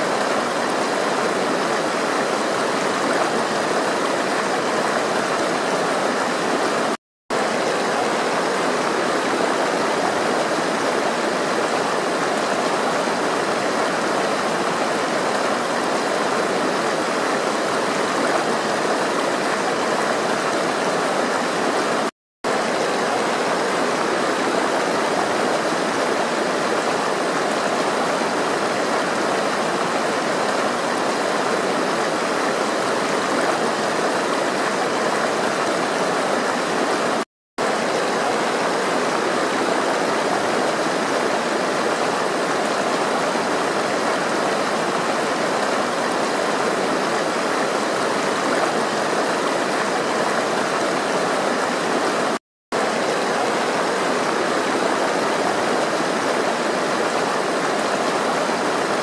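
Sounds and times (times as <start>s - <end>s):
water rushing steadily: 0.0s - 59.0s.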